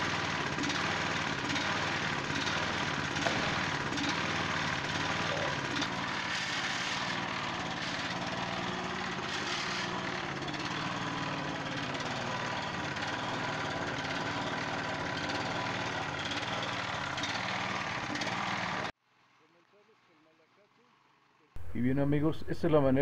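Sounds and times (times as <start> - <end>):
small gasoline engine running: 0.0 - 21.7.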